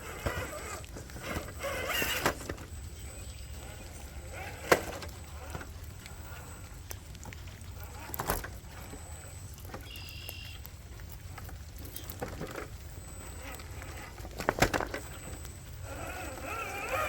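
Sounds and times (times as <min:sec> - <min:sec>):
faint toy motor whir: 0:00.0 - 0:06.8, 0:07.5 - 0:10.5, 0:11.2 - 0:17.0.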